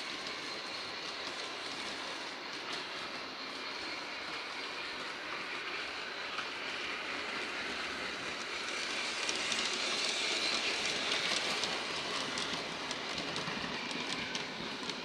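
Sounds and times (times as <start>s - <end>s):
model train motor and wheels: 0.0s - 15.0s.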